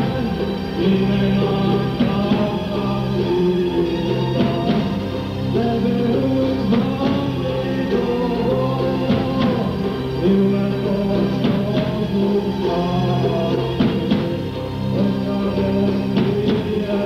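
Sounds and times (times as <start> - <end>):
man singing: 0.0 - 17.0.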